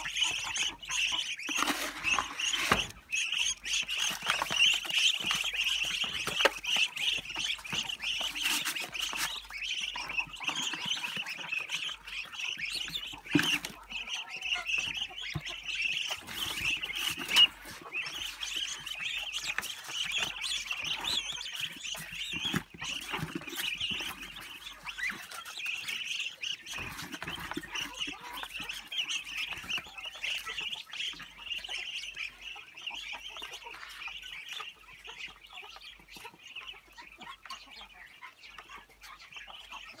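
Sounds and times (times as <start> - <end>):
ducklings peeping: 0.0 - 40.0.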